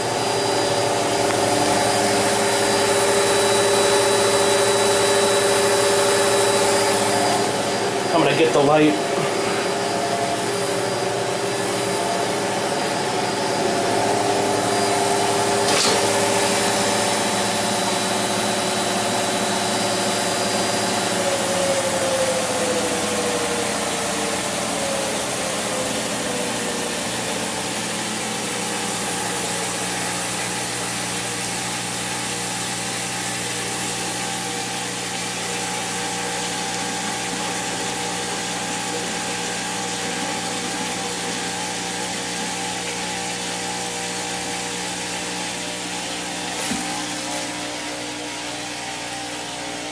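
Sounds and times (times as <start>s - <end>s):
washing machine motor whine: 0.0s - 49.9s.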